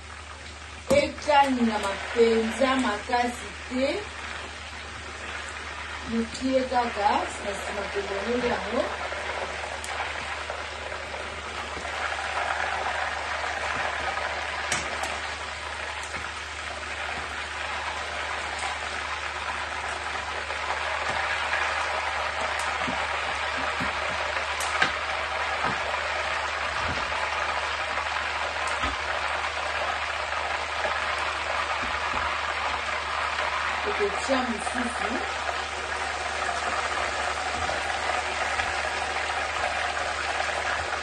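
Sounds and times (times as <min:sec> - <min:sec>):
chicken sizzling in hot oil: 0:00.0 - 0:41.0.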